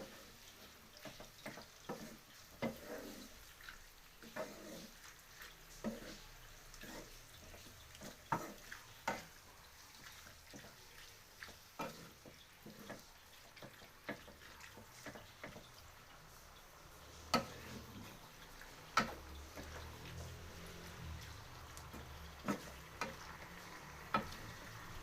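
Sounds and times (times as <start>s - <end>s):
utensil scraping a pan: 0.0s - 25.0s.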